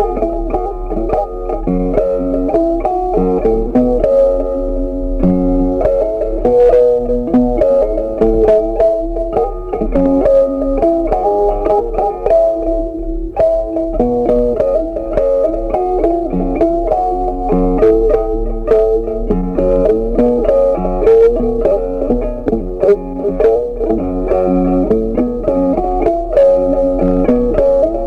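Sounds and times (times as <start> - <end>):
plucked guitar notes: 0.0 - 28.0.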